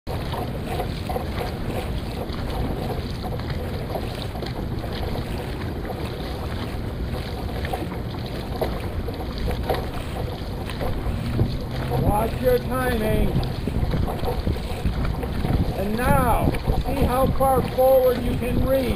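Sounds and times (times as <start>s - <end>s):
water from paddled boat: 0.0s - 18.9s
faint splashes: 0.1s - 18.9s
wind noise on microphone: 0.1s - 18.9s.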